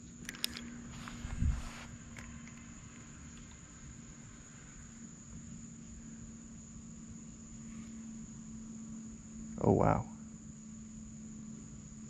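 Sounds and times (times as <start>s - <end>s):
crickets chirping: 0.0s - 12.0s
faint low hum: 0.0s - 12.0s.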